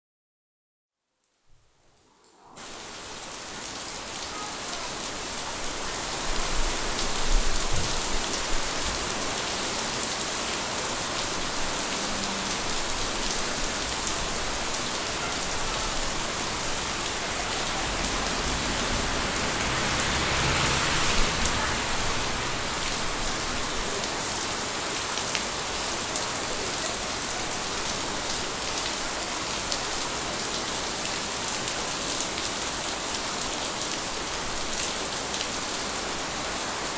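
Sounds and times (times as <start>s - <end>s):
rain pouring down: 1.9s - 36.9s
raindrops pattering on surfaces: 2.6s - 36.9s.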